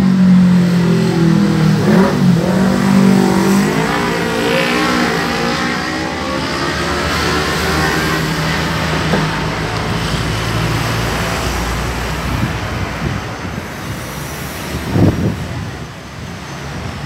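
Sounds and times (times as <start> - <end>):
street traffic noise: 0.0 - 17.0
vehicle engine hum: 0.0 - 17.0.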